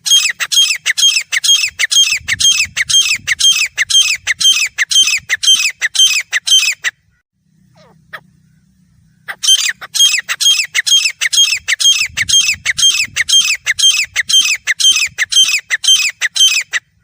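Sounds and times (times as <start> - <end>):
francolin calling: 0.0 - 17.0.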